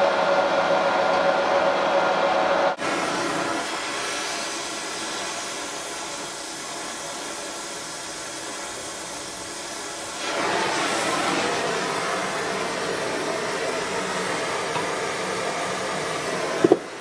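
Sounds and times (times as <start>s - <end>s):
gas torch flame hissing: 2.8s - 17.0s.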